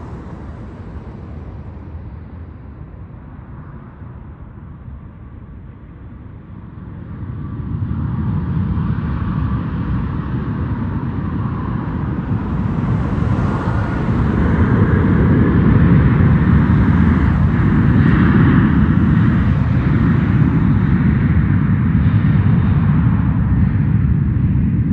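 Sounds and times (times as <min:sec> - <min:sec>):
jet engines roaring: 0:00.0 - 0:24.9.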